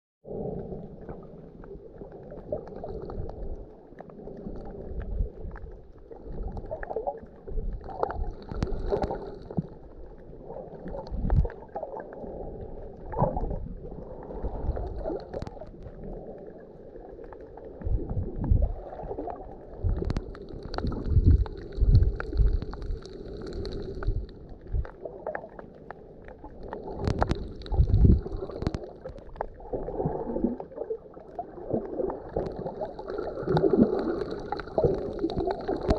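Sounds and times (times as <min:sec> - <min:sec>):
muffled water sloshing and gurgling: 0:00.2 - 0:35.9.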